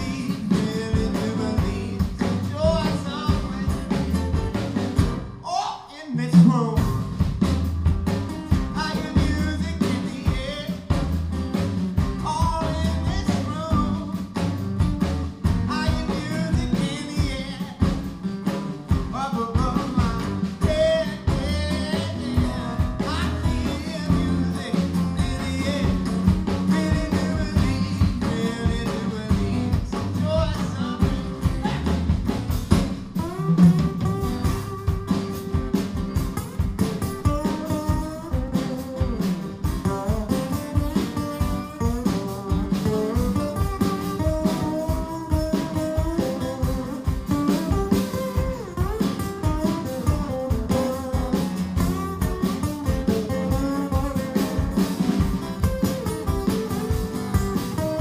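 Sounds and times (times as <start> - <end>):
acoustic guitars strumming: 0.0 - 58.0.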